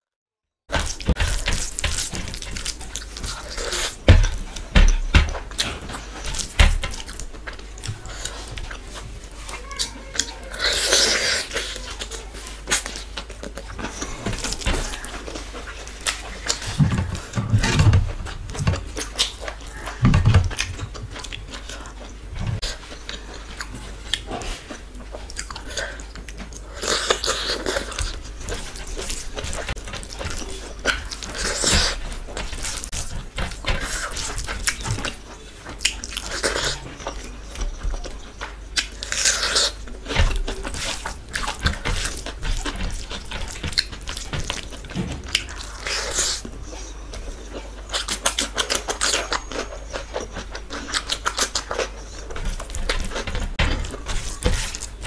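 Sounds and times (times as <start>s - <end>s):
wet chewing and lip smacking: 0.8s - 55.0s.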